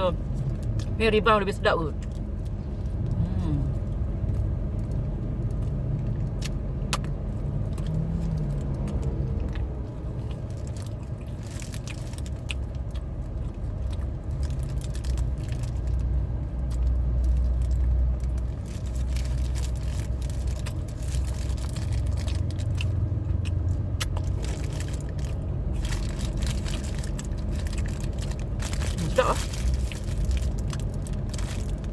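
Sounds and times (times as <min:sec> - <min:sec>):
low rumble: 0:00.0 - 0:31.9
person chewing: 0:02.0 - 0:31.9
small clicks and crackles: 0:04.3 - 0:31.9.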